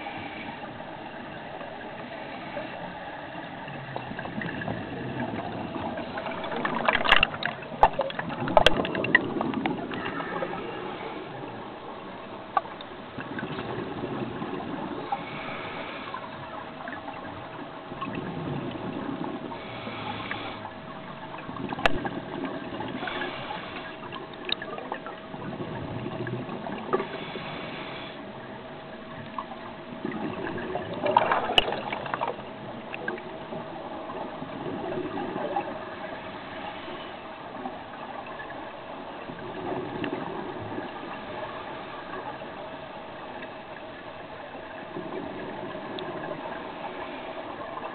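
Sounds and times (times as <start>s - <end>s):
faint steady hum: 0.0s - 47.9s
underwater bubbles gurgling: 0.0s - 47.9s.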